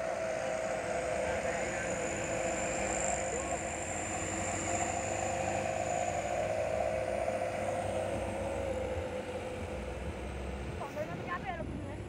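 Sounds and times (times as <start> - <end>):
held engine whine: 0.0 - 12.0
truck engine and road noise: 0.0 - 12.0.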